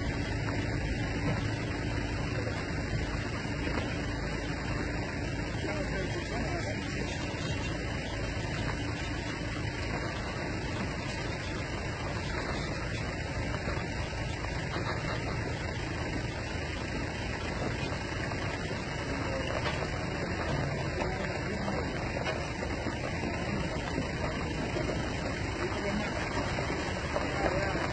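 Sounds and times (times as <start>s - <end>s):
trailers rumbling on dirt road: 0.0s - 27.9s.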